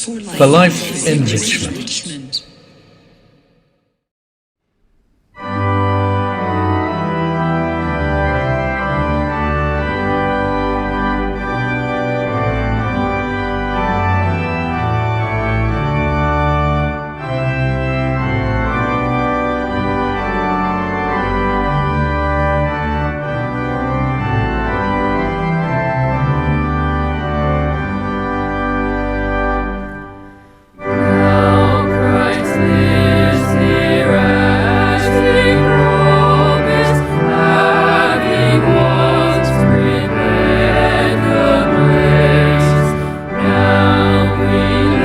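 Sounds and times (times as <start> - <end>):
organ music: 0.0 - 2.5, 5.4 - 45.0.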